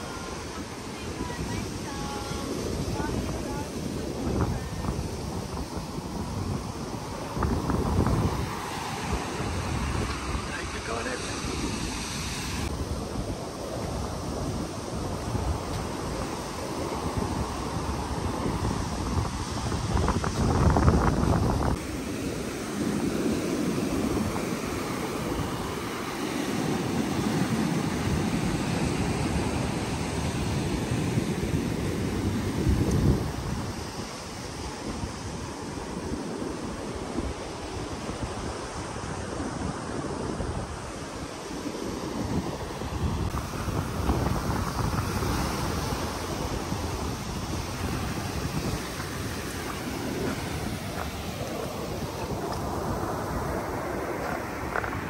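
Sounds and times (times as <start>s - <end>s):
ocean surf on beach: 0.0s - 55.0s
wind on microphone: 0.0s - 55.0s.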